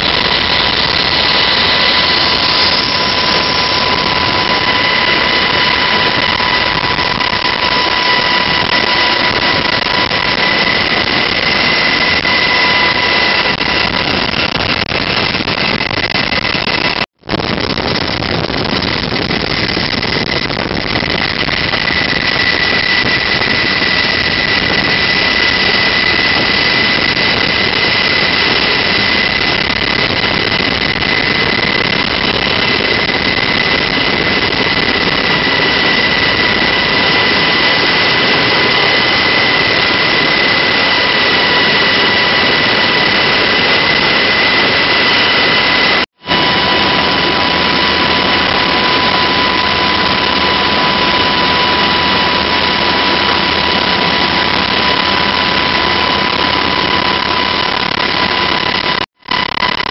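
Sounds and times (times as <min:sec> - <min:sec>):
helicopter engines and rotors: 0:00.0 - 0:59.9.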